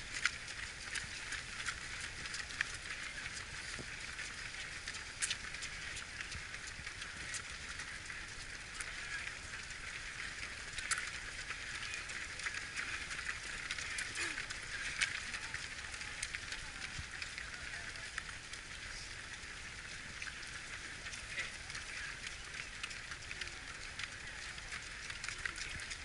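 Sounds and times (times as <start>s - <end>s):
runners' footsteps on asphalt: 0.0s - 26.0s.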